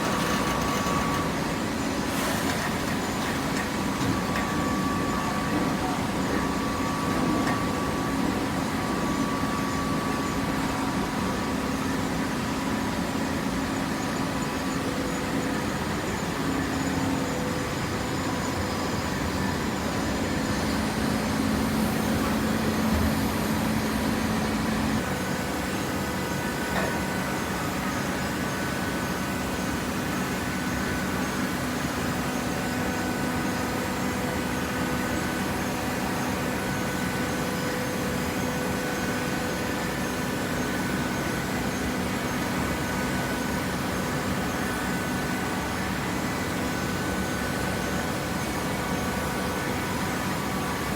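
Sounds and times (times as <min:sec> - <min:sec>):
hydraulic baler humming: 0:00.0 - 0:11.5, 0:18.2 - 0:50.9.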